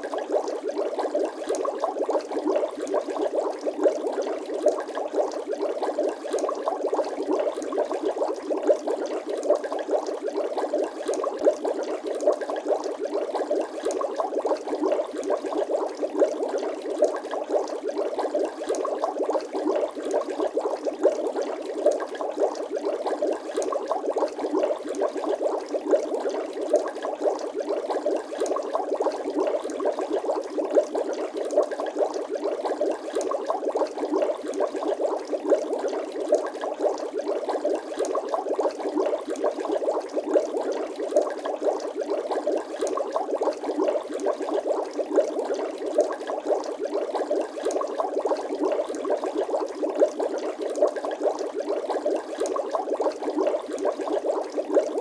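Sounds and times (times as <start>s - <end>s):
water bubbles popping: 0.0s - 55.0s.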